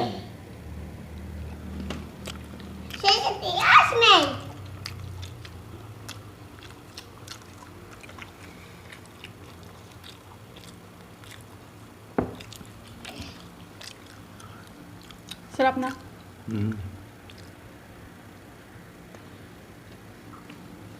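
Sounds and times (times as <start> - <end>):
people biting and chewing food: 1.1 - 3.0, 4.4 - 20.9.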